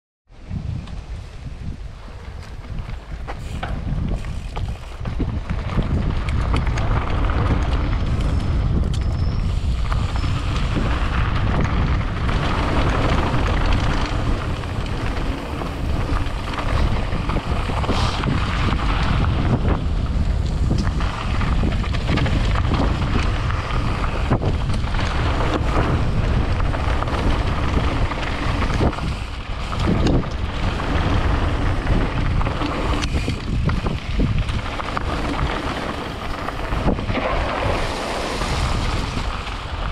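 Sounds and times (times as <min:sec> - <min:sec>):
wind rushing over microphone: 0:00.3 - 0:39.9
bike tyres crunching on gravel: 0:00.5 - 0:39.9.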